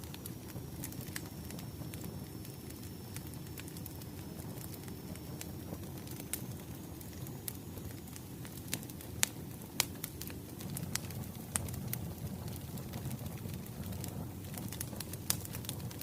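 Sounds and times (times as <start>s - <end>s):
fire popping: 0.0s - 16.0s
rumble of burning logs: 0.0s - 16.0s.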